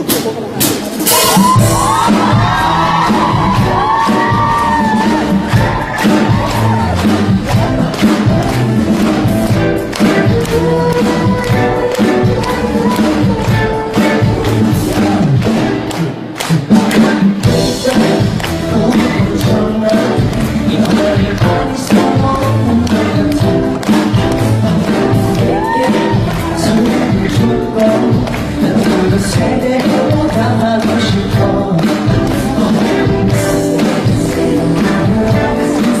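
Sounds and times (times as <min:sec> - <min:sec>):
pop song with singing: 0:00.0 - 0:36.0.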